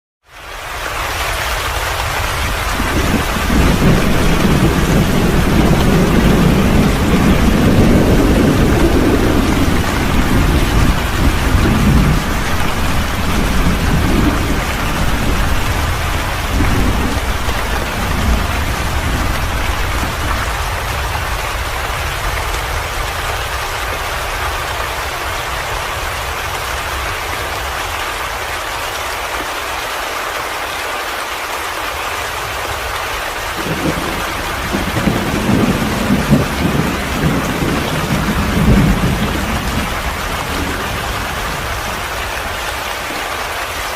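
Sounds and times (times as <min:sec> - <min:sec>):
heavy rain falling: 0:00.2 - 0:43.9
thunder rumbling: 0:01.6 - 0:27.7, 0:32.8 - 0:43.2.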